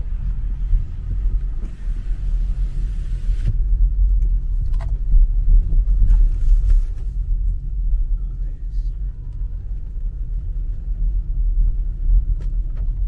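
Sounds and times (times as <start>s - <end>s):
tyre and engine rumble: 0.0s - 13.0s.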